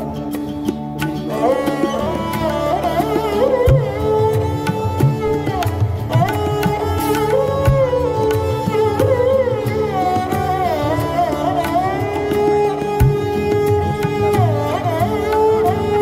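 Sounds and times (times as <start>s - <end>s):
gliding melody: 0.0s - 16.0s
hand drums: 0.0s - 16.0s.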